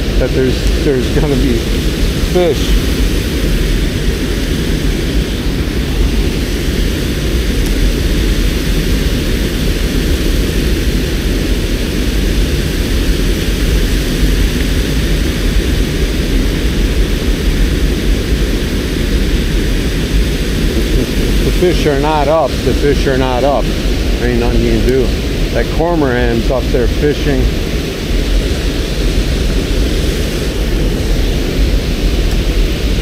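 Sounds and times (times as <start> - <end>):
water rushing over dam: 0.0 - 33.0.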